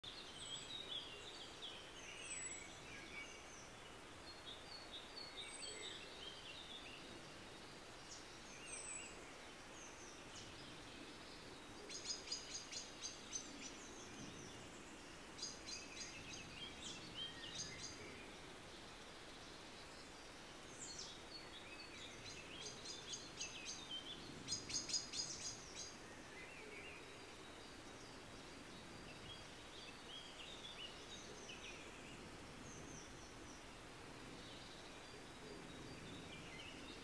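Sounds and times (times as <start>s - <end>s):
faint steady hiss: 0.0s - 37.0s
songbirds singing: 0.0s - 37.0s.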